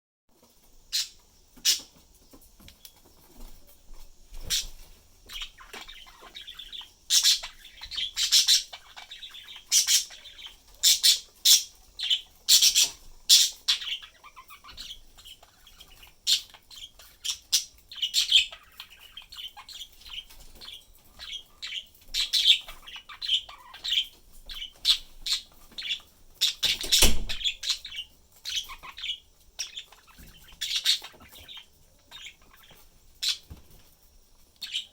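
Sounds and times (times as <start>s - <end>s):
budgerigars chirping: 0.9s - 2.0s, 4.4s - 33.6s, 34.6s - 34.9s.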